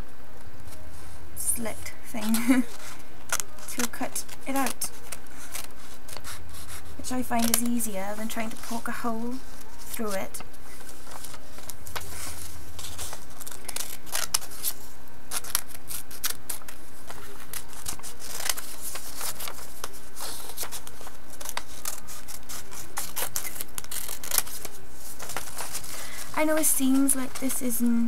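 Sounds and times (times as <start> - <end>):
paper rustling: 0.5 - 28.0
scissors cutting paper: 2.2 - 10.4, 11.1 - 27.8.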